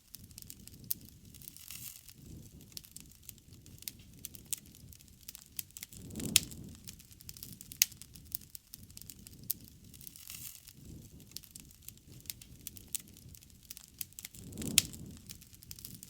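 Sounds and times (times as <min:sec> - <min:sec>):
campfire crackling: 0:00.0 - 0:16.0
low rumble of flames: 0:00.0 - 0:16.0
sharp pops from fire: 0:00.0 - 0:16.0.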